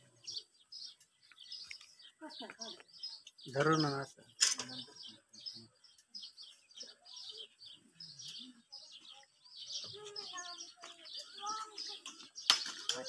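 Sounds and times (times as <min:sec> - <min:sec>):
faint low voices murmuring: 0:00.0 - 0:13.0
small birds chirping: 0:00.0 - 0:13.0.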